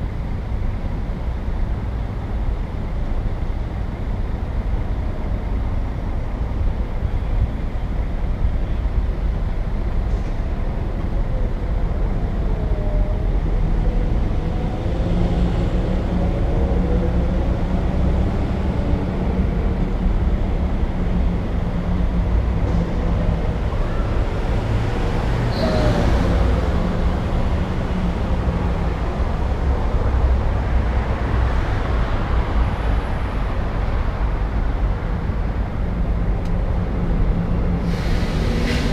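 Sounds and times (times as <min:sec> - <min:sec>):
heavy engine humming: 0:00.0 - 0:38.9
passing cars and buses: 0:00.0 - 0:38.9.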